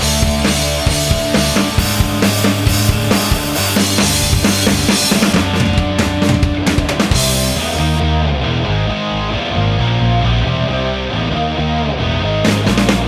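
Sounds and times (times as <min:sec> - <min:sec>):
rock music with drums and bass: 0:00.0 - 0:13.0.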